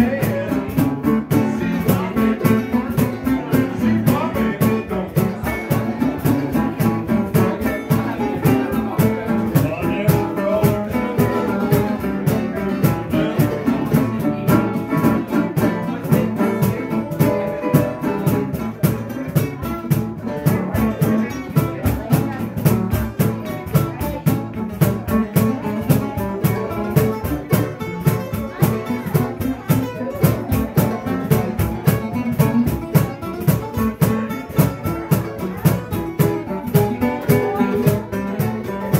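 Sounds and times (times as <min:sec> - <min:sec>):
acoustic guitars: 0:00.0 - 0:38.9
cajon beating a rhythm: 0:00.0 - 0:38.9
resonator guitar: 0:00.0 - 0:38.9.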